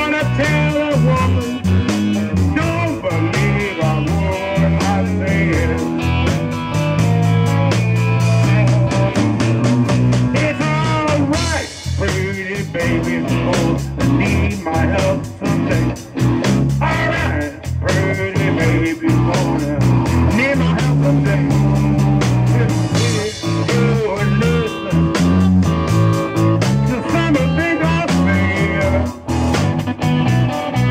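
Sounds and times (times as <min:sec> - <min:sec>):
man singing into microphone: 0:00.0 - 0:06.3, 0:07.3 - 0:09.2, 0:10.3 - 0:16.1, 0:16.8 - 0:25.4, 0:26.7 - 0:29.2
bass guitar: 0:00.0 - 0:30.9
drum kit beat: 0:00.0 - 0:30.9
electric guitar: 0:00.0 - 0:30.9.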